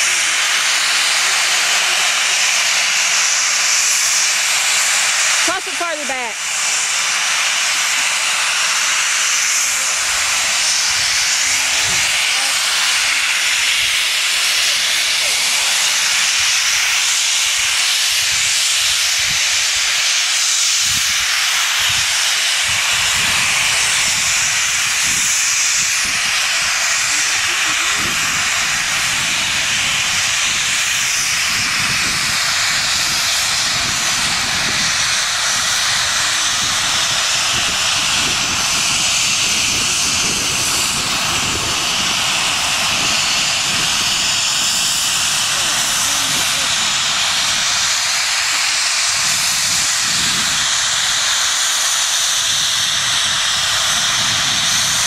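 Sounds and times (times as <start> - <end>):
steam locomotive venting steam: 0.0 - 55.0.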